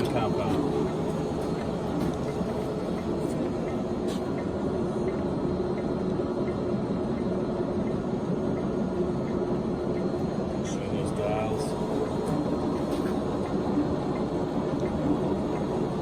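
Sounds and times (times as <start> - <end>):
lathe motor humming: 0.0 - 16.0.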